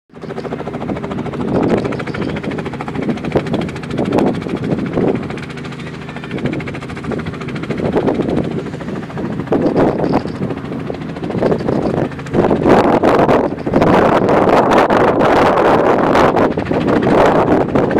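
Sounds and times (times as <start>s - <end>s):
helicopter engine and rotor: 0.1s - 17.9s.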